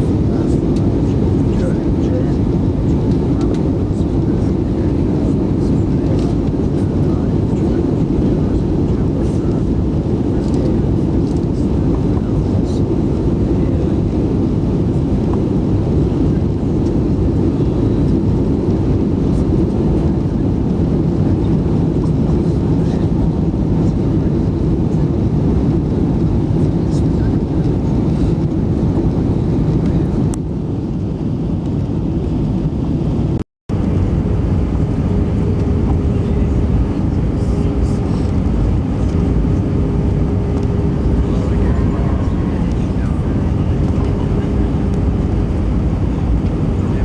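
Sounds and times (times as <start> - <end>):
jet engine and airflow rumble: 0.0 - 47.0.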